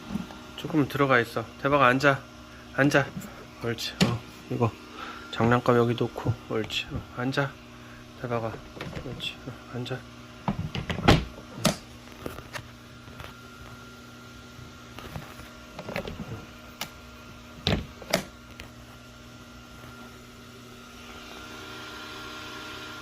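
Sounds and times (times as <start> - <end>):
nebulizer motor hum: 0.0 - 23.0.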